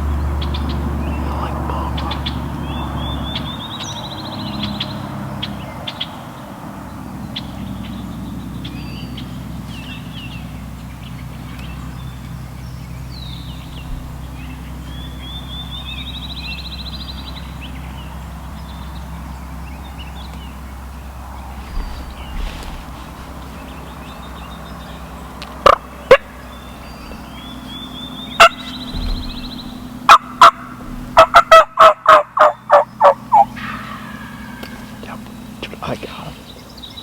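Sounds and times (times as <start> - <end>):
steady low hum: 0.0 - 5.8, 6.4 - 37.0
songbirds chirping: 0.0 - 37.0
rapid bird trills: 7.2 - 37.0.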